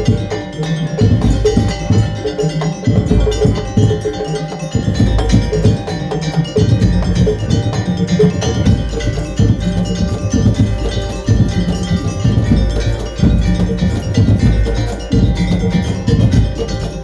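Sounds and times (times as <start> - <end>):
heavy drum beats: 0.0 - 17.0
ringing gong and bell tones: 0.0 - 17.0.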